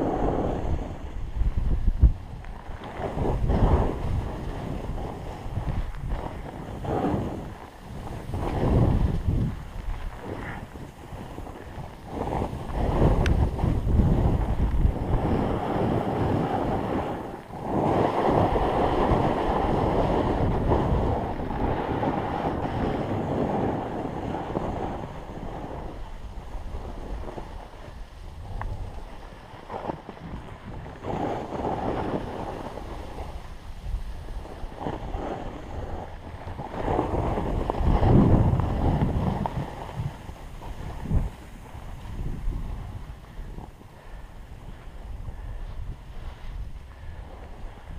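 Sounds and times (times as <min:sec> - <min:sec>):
snow scraping under skis: 0:00.0 - 0:47.9
wind buffeting microphone: 0:00.0 - 0:47.9.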